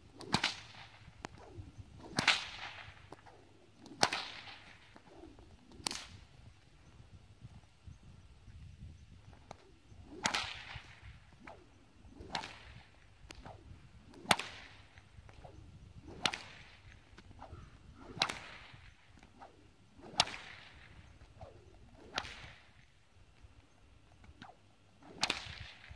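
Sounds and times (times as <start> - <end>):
whip swishing through air: 0.0 - 6.4, 9.3 - 23.0, 24.2 - 25.9
whip cracking: 0.1 - 6.3, 9.4 - 23.0, 24.2 - 25.9.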